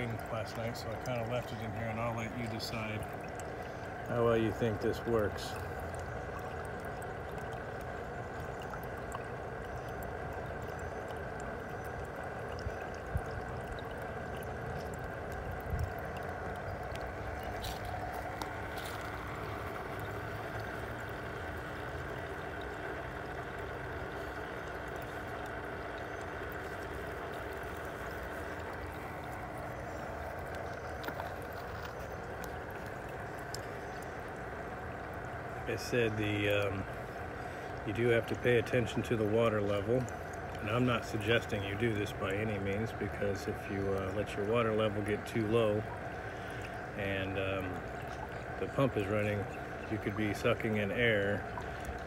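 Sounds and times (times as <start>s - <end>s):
faint hum: 0.0s - 52.0s
water trickling and rushing: 0.0s - 52.0s.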